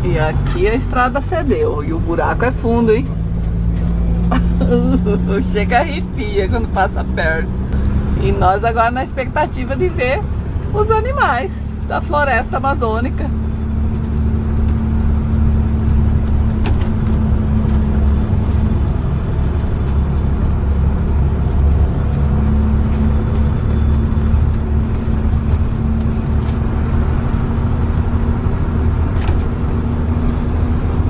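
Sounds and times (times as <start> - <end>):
road noise: 0.0 - 31.0
vehicle engine droning: 0.0 - 31.0.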